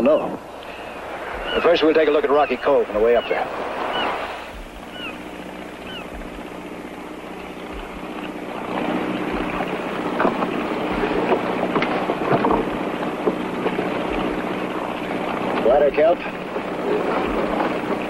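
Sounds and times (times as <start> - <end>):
motorboat engine humming: 0.0 - 18.0
water noise: 0.0 - 18.0
wind: 0.0 - 18.0.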